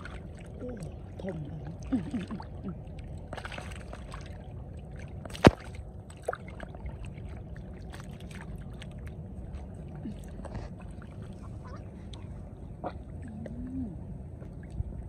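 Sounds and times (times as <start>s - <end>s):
muddy water splashing: 0.0s - 15.0s.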